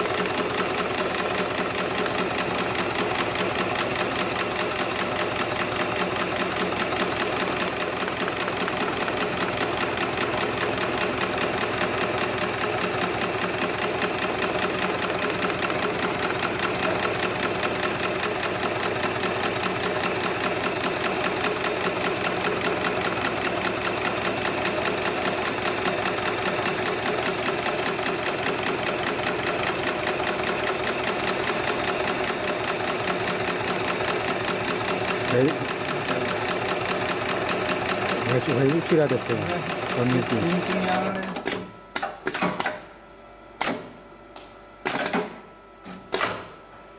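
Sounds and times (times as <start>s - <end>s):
sewing machine stitching: 0.0s - 42.6s.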